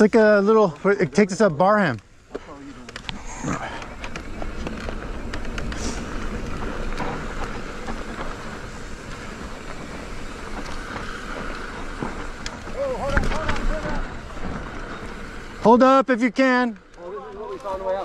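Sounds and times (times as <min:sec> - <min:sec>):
bike rattling and clicking: 0:00.0 - 0:18.0
bike tyres on dirt and rocks: 0:00.0 - 0:18.0.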